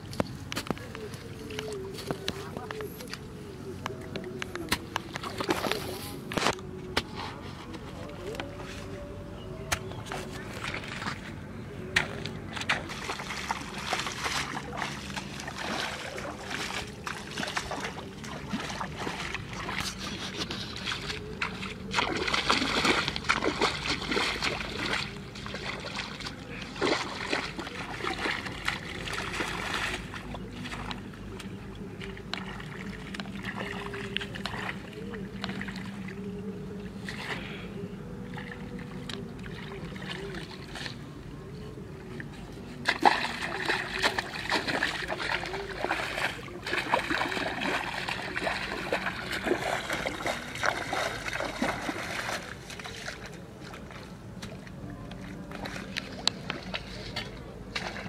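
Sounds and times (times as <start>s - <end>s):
faint steady hum: 0.0s - 58.0s
water splashing and sloshing: 0.0s - 58.0s.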